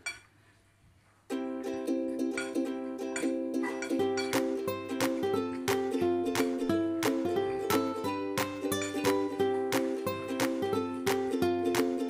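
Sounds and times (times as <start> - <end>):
plucked string music: 1.3 - 12.0.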